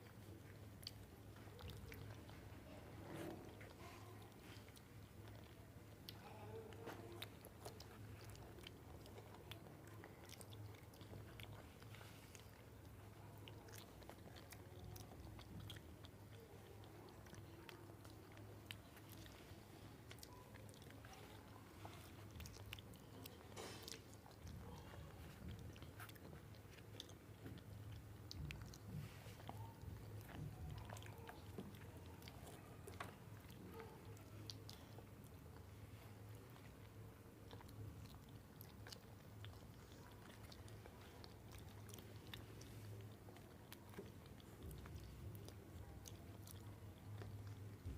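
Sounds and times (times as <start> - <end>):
people chewing bananas: 0.0 - 47.9.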